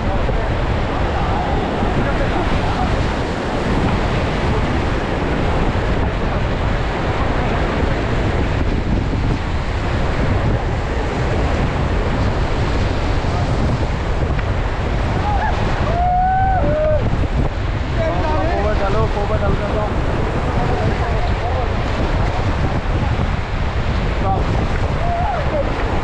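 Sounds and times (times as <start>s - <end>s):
whitewater rushing: 0.0s - 26.0s
wind buffeting microphone: 0.0s - 26.0s.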